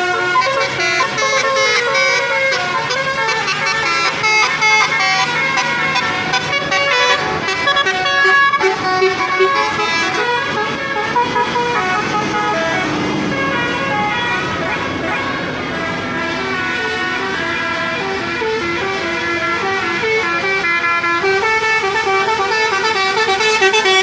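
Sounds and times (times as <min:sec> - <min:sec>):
musical bus horns playing tunes: 0:00.0 - 0:24.0.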